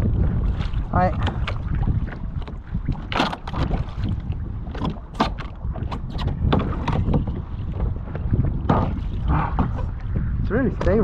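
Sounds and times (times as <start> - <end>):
water slapping kayak hull: 0.0 - 11.0
wind buffeting microphone: 0.0 - 11.0.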